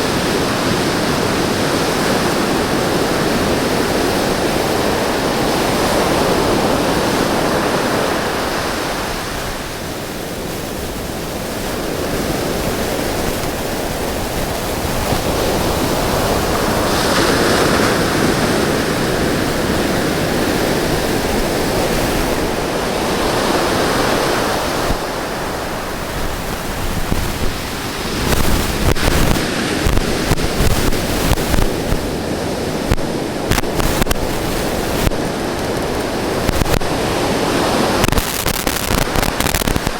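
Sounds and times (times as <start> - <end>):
ocean surf breaking on beach: 0.0 - 39.9
wind buffeting microphone: 0.0 - 39.9.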